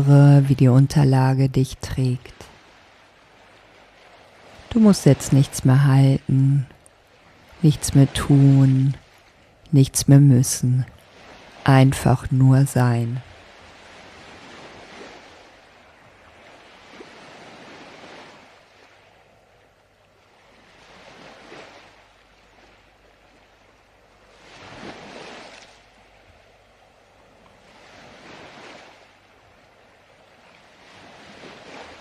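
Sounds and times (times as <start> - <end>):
ocean waves washing in: 0.0 - 32.0.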